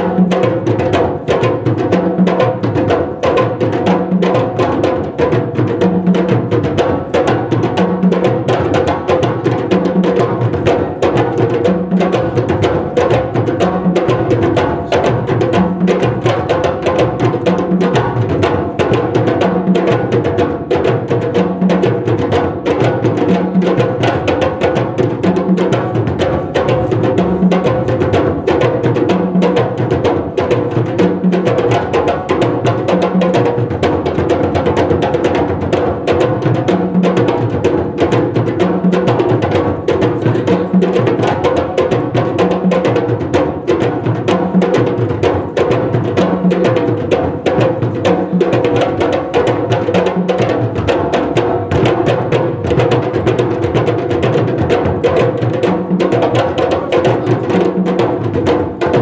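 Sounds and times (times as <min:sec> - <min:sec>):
hand drums playing fast rhythm: 0:00.0 - 0:59.0.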